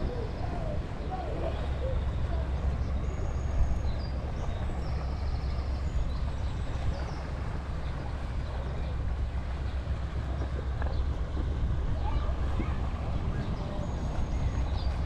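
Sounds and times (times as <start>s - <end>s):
wind on the microphone: 0.0s - 15.0s.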